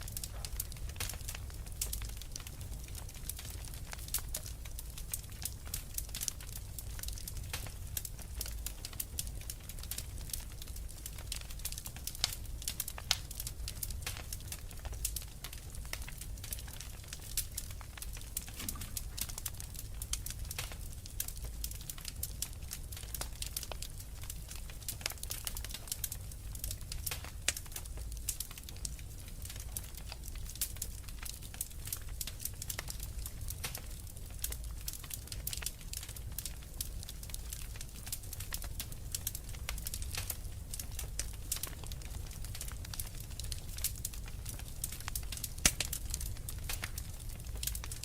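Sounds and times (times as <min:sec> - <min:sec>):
fire crackling: 0:00.0 - 0:48.0.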